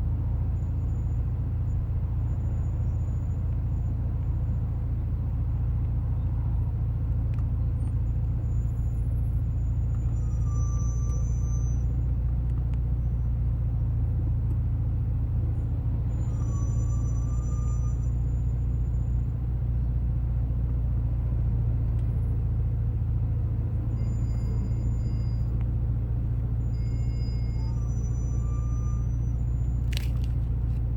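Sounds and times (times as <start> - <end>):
car low rumble: 0.0 - 30.9
brake pads squeaking: 0.1 - 20.1, 20.7 - 30.9.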